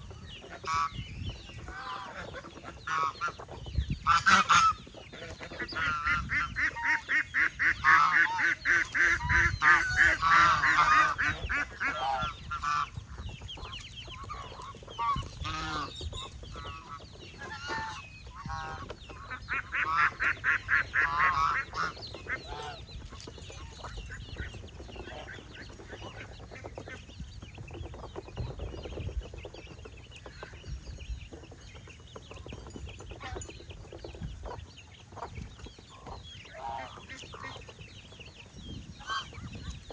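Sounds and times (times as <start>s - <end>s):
geese and poultry calling: 0.0s - 39.9s.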